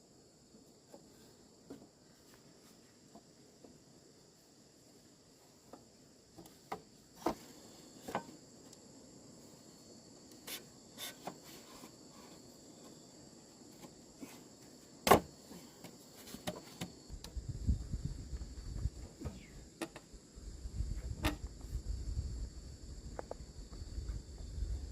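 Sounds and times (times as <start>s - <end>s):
insects droning: 0.0s - 24.9s.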